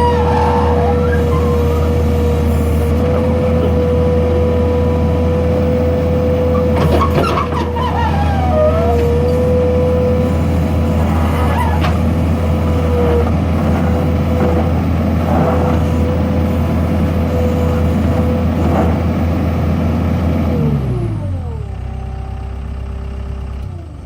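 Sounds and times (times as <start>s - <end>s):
diesel engine running then idling: 0.0s - 24.0s.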